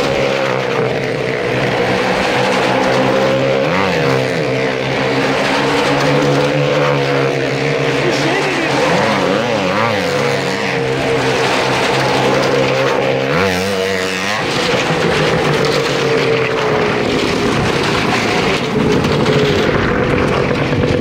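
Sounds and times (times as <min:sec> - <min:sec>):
motorcycle engines circling: 0:00.0 - 0:21.0.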